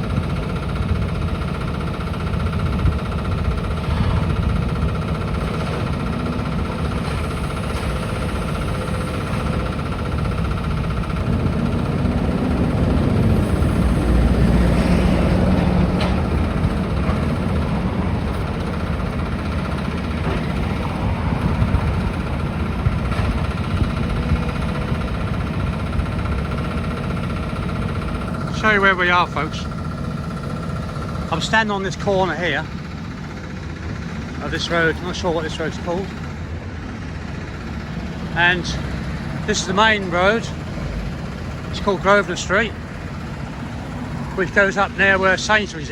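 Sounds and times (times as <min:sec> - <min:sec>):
diesel engine of heavy machinery: 0:00.0 - 0:45.9.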